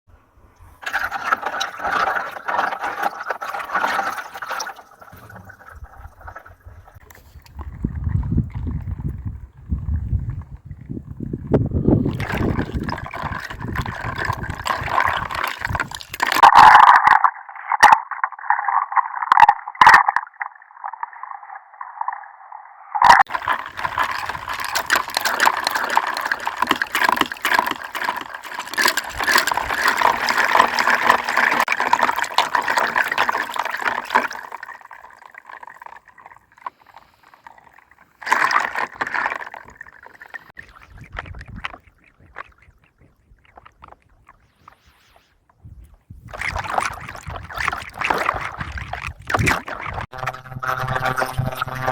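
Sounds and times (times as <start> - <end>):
water gurgling and bubbling: 0.8 - 51.9.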